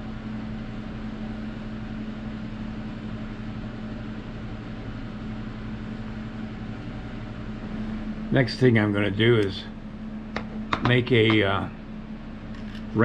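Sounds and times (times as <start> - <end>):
fan motor hum and hiss: 0.0 - 13.0.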